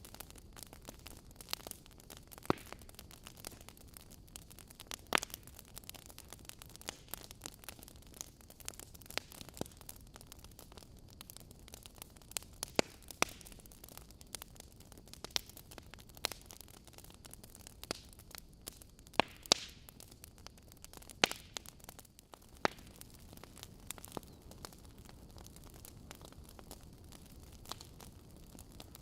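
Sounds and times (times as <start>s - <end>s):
faint steady hiss: 0.0s - 29.0s
logs crackling and popping: 0.0s - 29.0s.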